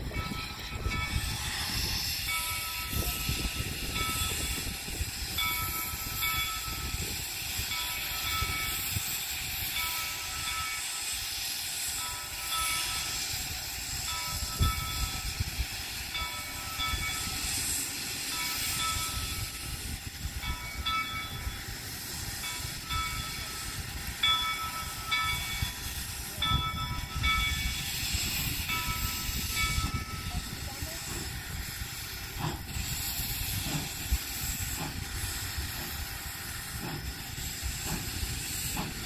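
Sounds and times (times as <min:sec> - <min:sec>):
steam hissing from cylinders: 0:00.0 - 0:39.0.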